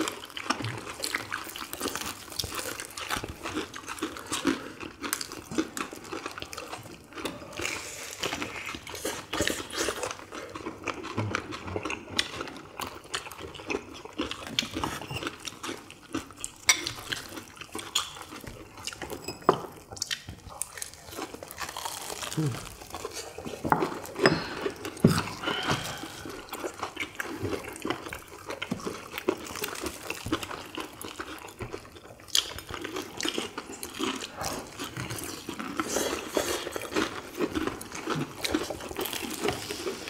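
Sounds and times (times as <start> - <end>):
wet chewing and crunchy bites: 0.0 - 40.0.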